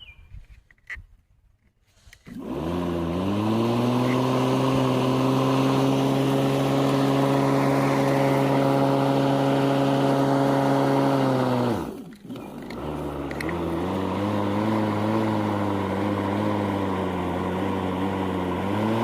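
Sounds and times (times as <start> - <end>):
lawn mower engine revving: 2.3 - 19.0.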